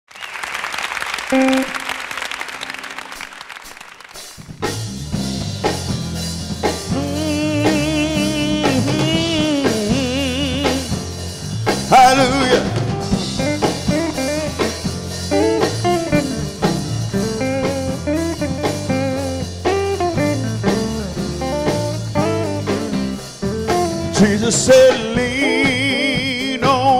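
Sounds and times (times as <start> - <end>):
drums: 0.1 - 26.9
electric guitar: 1.0 - 26.9
bass guitar: 1.3 - 3.3, 4.2 - 26.9.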